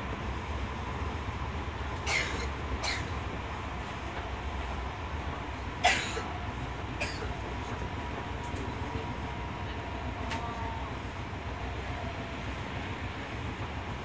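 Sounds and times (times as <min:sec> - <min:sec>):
train rumble inside car: 0:00.0 - 0:14.0.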